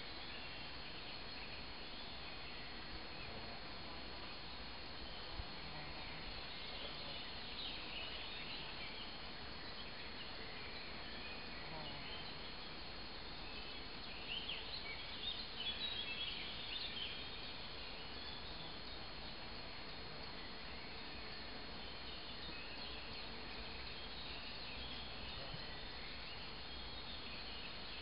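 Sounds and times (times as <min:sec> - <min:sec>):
faint hiss: 0:00.0 - 0:28.0
small birds chirping: 0:00.0 - 0:28.0.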